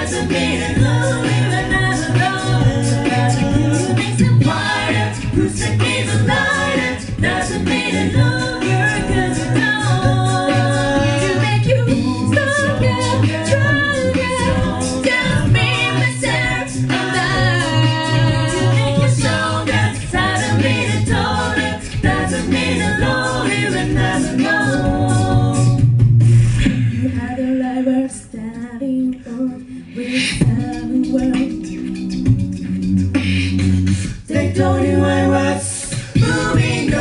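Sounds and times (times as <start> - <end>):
sung bass line: 0.0 - 27.1, 30.4 - 37.0
vocal group singing in harmony: 0.0 - 28.4, 29.2 - 37.0
vocal percussion beat: 0.0 - 37.0.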